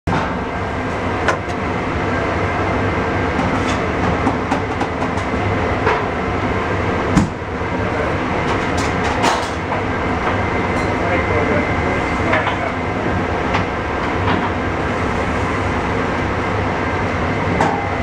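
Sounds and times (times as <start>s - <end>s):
kitchen equipment humming: 0.1s - 18.0s.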